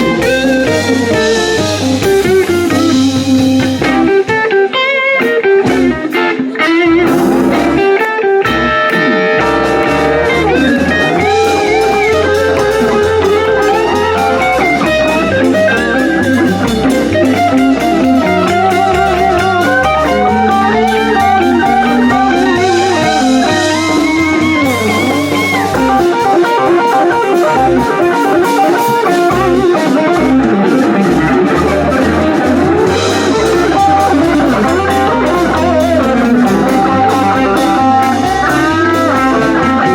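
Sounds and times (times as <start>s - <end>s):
walking bass line: 0.0s - 4.6s, 5.4s - 39.9s
drums: 0.0s - 39.9s
electric guitar with bent notes: 0.0s - 39.9s.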